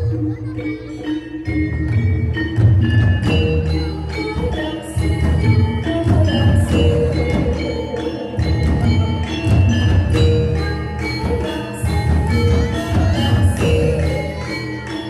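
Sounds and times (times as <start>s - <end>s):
metallophones ringing a melody: 0.0s - 15.0s.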